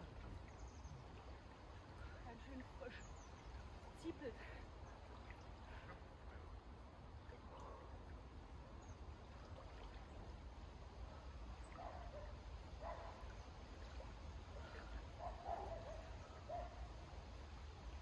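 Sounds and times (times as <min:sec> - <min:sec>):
faint distant sounds: 0:00.0 - 0:18.0.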